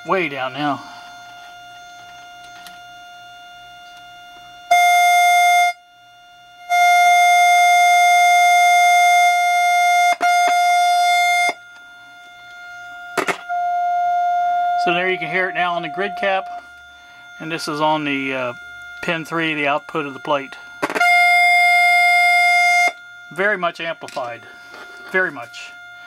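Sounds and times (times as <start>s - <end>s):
steady test tone from speaker: 0.0s - 26.0s.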